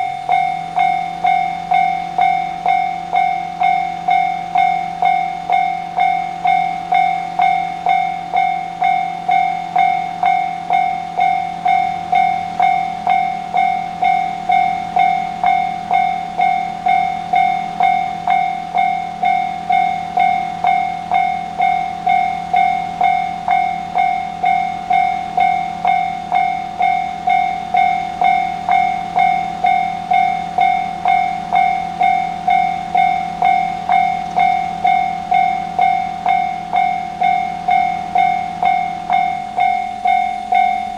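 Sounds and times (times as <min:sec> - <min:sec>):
level-crossing alarm bell: 0:00.0 - 0:40.9.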